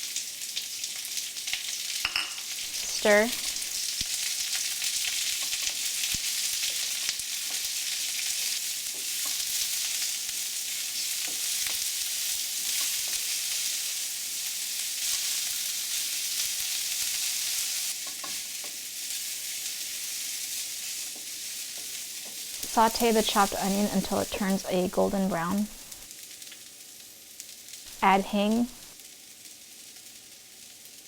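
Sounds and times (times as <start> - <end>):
onion sizzling in hot oil: 0.0 - 31.0.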